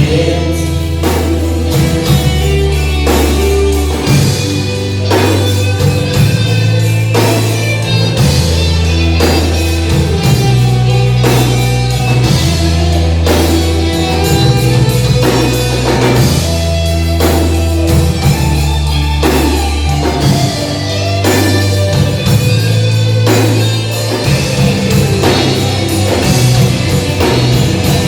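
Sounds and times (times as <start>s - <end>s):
drum kit beat: 0.0s - 28.0s
guitar: 0.0s - 28.0s
low bass line: 0.0s - 28.0s
rock band instrumental: 0.0s - 28.0s.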